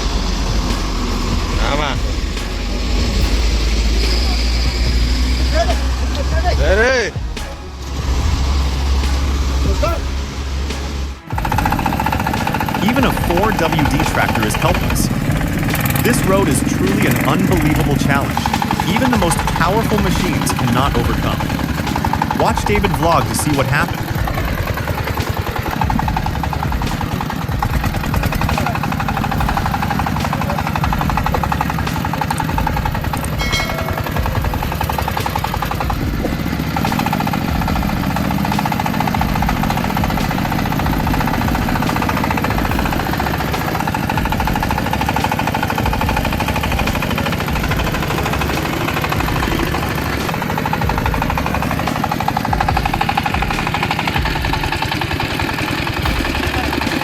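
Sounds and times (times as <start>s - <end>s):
heavy vehicle engine rumble: 0.0s - 57.0s.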